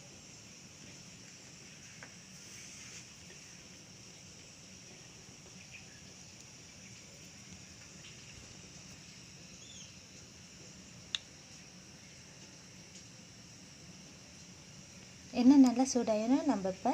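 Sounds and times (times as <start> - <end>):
high-pitched background hiss: 0.0 - 16.9.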